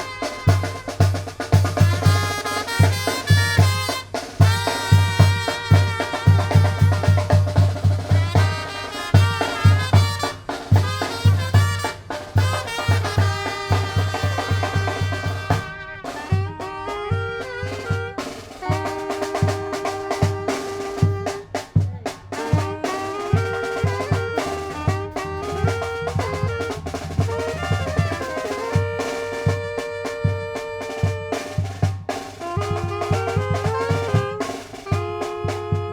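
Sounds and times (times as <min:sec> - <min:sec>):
trumpets and brass playing: 0:00.0 - 0:35.9.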